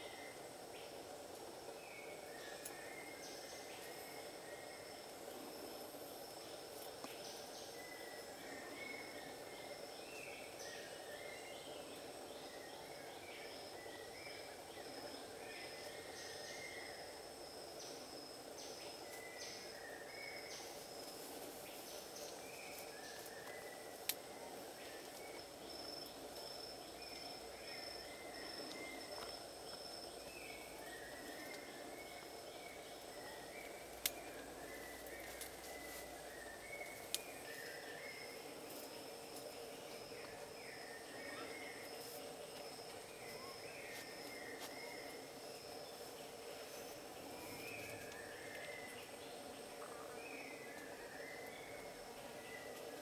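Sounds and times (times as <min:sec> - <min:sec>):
high insect drone: 0:00.0 - 0:53.0.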